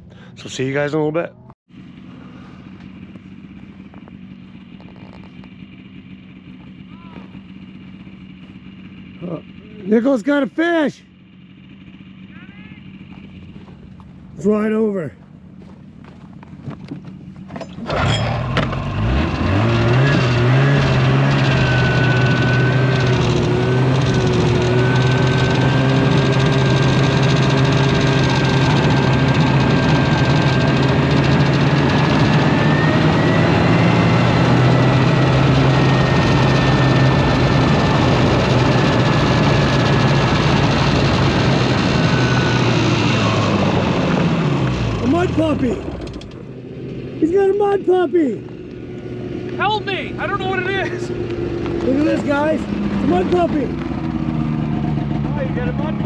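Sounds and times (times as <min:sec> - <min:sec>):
snowmobile engine running: 0:01.8 - 0:56.0.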